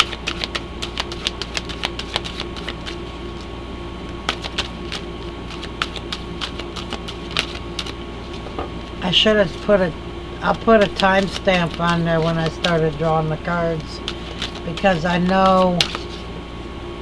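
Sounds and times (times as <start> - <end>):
cards being shuffled: 0.0 - 16.3
steady low hum: 0.0 - 17.0.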